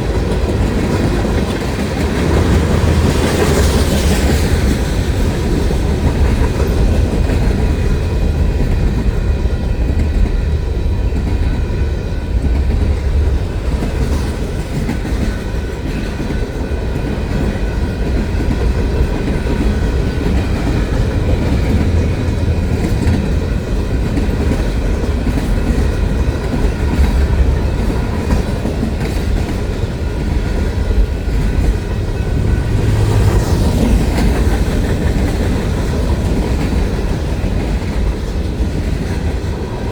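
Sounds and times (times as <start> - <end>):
railroad cars rolling past: 0.0 - 39.9.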